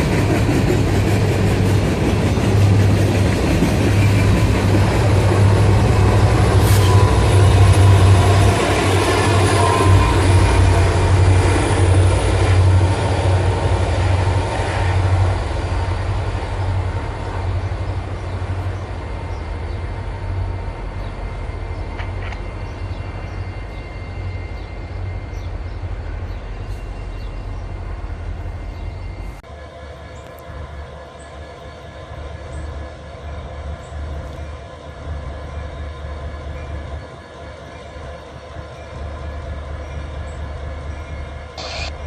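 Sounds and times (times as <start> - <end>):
freight train rolling past: 0.0 - 42.0.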